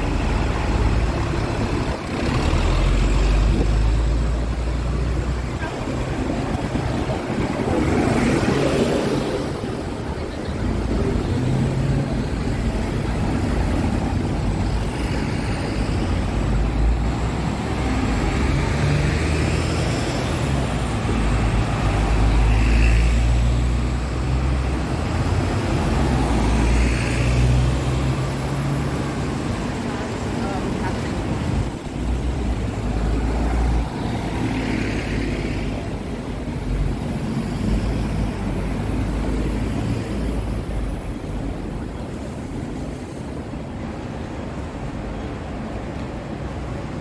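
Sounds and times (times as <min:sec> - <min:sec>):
vehicle rumble: 0:00.0 - 0:47.0.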